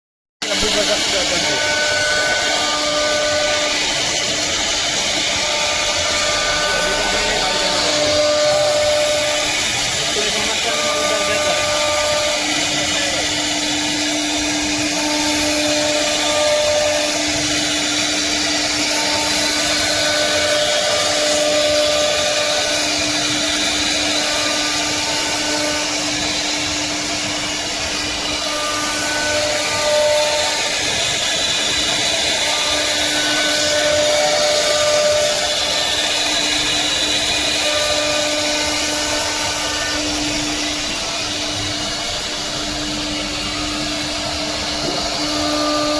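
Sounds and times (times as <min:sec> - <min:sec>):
cnc router running: 0:00.4 - 0:45.9
machine higher tones: 0:00.5 - 0:45.9.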